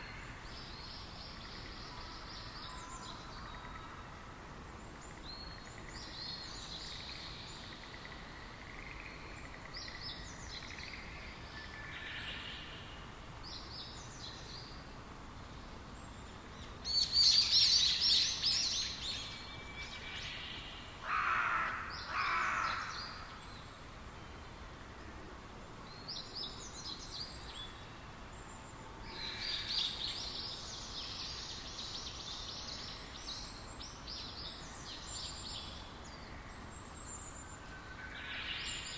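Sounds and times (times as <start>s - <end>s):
songbirds chirping: 0.0s - 38.9s
steady background hiss: 0.0s - 38.9s.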